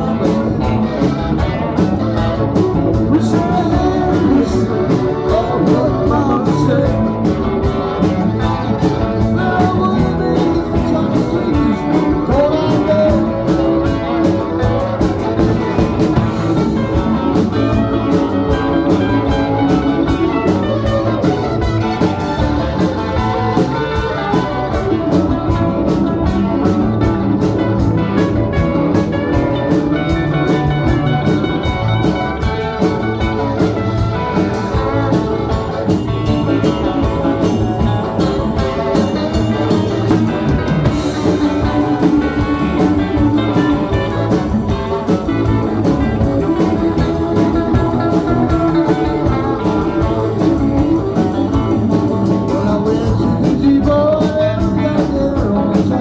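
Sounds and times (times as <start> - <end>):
live blues-rock band playing: 0.0 - 56.0
steady drum beat: 0.0 - 56.0.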